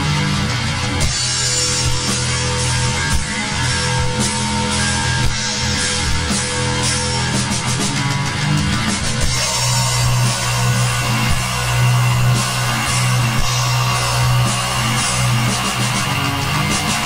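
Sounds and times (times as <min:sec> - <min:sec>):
doom metal band playing: 0:00.0 - 0:17.0.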